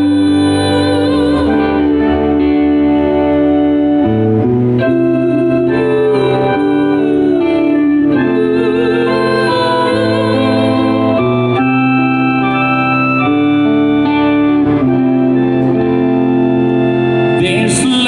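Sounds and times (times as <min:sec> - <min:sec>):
live band with organ chords: 0:00.0 - 0:18.0
wavering melodic line: 0:00.0 - 0:18.0.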